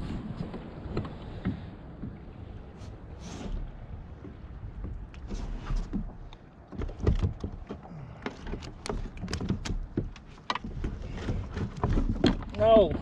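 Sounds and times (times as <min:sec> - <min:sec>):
hands handling gear on plastic kayak: 0:00.3 - 0:13.0.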